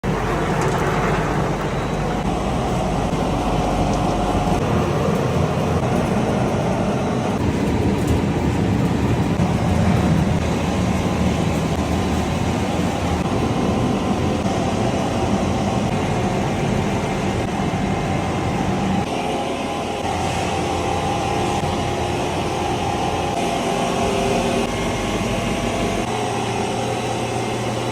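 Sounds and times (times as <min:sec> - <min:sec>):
mill machinery rumbling: 0:00.0 - 0:27.9.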